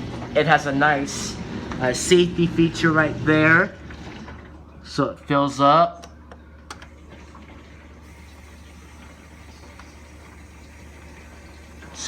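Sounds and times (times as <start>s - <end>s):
dishwasher low hum: 0.0s - 12.0s
water running into dishwasher: 0.0s - 12.0s.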